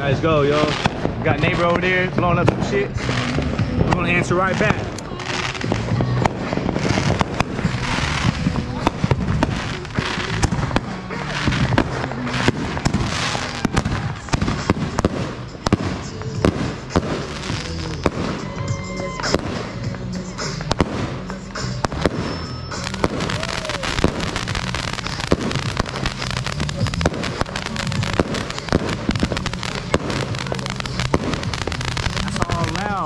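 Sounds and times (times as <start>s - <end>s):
crackling firework bursts: 0.0s - 33.0s
fireworks launching: 0.0s - 33.0s
music: 0.0s - 33.0s.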